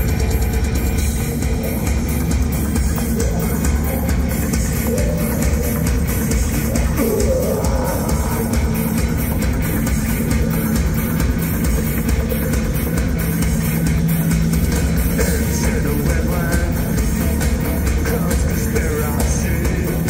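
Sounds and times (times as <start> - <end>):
driving drum beat: 0.0 - 20.0
heavy bass: 0.0 - 20.0
live electronic rock band: 0.0 - 20.0.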